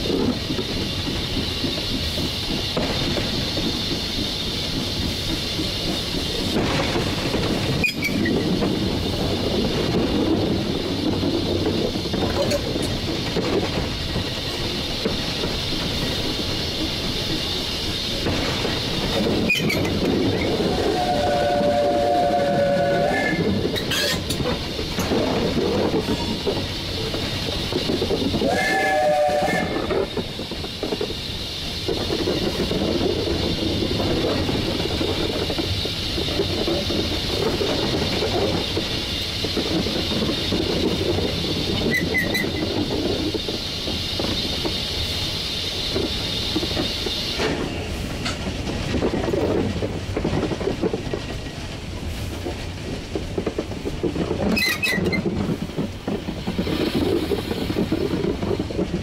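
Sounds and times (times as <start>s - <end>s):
steam hiss: 0.0s - 59.0s
steam locomotive rumble and rail clatter: 0.0s - 59.0s.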